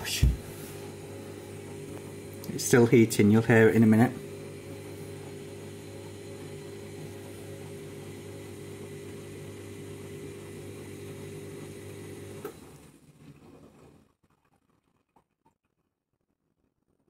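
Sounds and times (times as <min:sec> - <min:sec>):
washing machine motor humming: 0:00.0 - 0:15.1.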